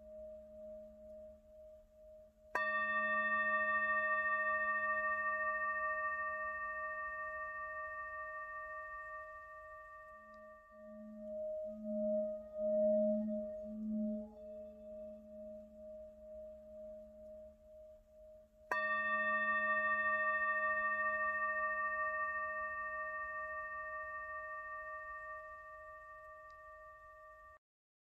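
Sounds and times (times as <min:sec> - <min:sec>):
singing bowl hum: 0:00.0 - 0:27.6
singing bowl struck and ringing: 0:00.0 - 0:27.6.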